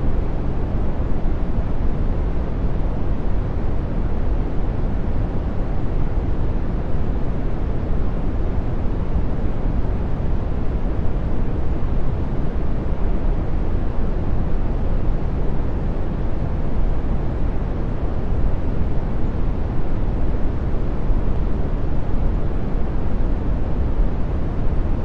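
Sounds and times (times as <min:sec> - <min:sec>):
brown noise: 0:00.0 - 0:25.0.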